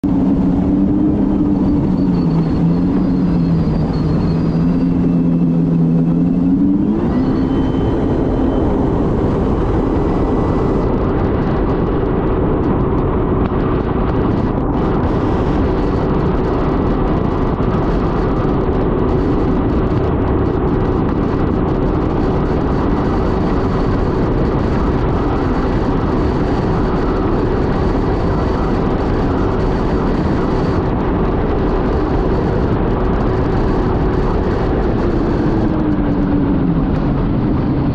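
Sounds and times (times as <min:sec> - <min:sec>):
jet ski engine running: 0:00.0 - 0:37.9
loud rushing noise: 0:00.0 - 0:37.9.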